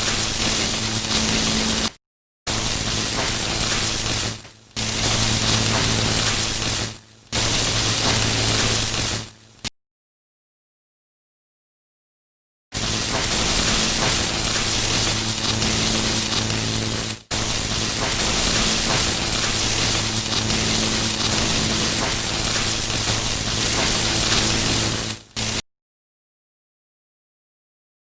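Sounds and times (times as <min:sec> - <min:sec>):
crackling electric buzz: 0:00.0 - 0:09.7, 0:12.8 - 0:25.6.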